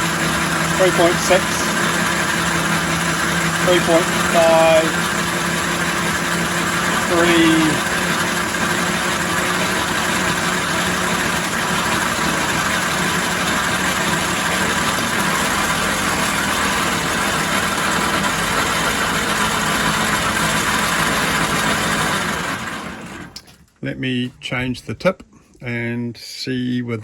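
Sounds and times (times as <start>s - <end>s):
lathe tool cutting hiss: 0.0s - 23.0s
lathe hum: 0.0s - 23.4s.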